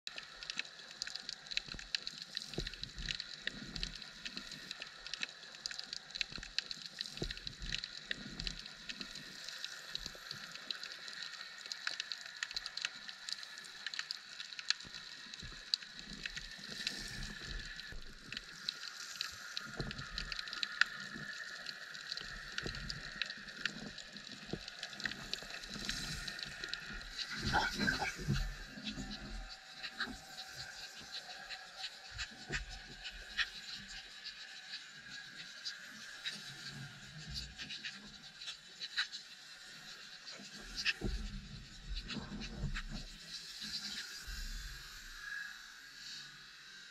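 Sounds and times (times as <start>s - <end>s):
underwater crackling clicks: 0.1s - 36.7s, 37.3s - 45.4s.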